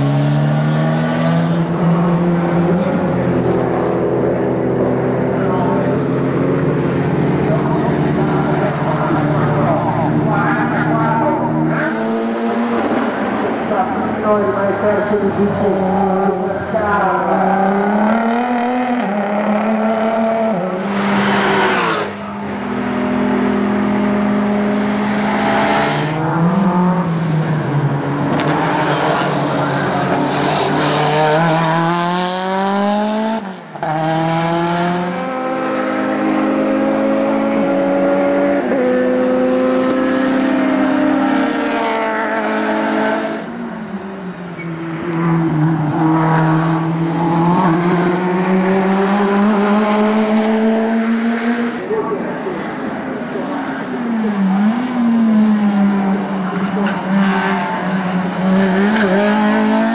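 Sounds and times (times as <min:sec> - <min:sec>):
race car engines at full throttle: 0:00.0 - 0:59.9.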